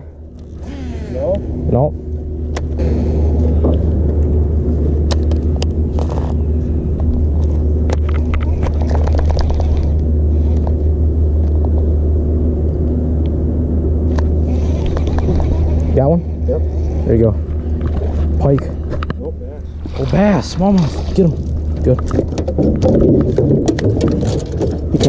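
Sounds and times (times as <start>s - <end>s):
boat motor running: 0.0s - 25.0s.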